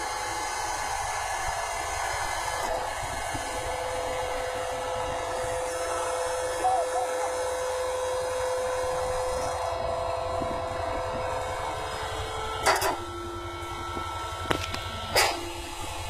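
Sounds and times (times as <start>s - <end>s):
baling machine humming: 0.0s - 16.0s.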